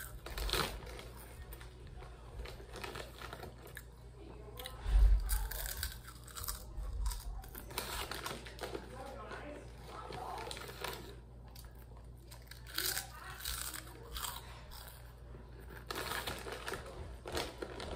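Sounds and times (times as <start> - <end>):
child crunching chips: 0.0 - 4.0, 4.6 - 17.9.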